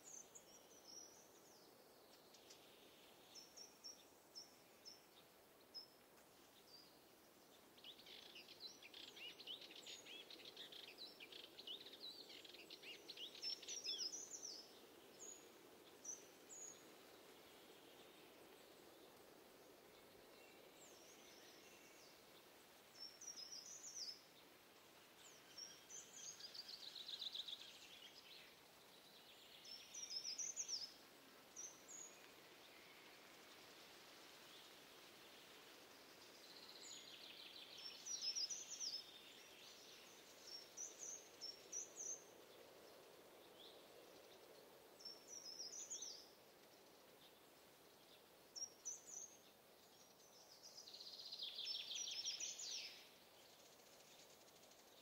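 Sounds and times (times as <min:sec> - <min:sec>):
faint outdoor ambience: 0:00.0 - 0:55.0
small birds chirping: 0:00.0 - 0:55.0.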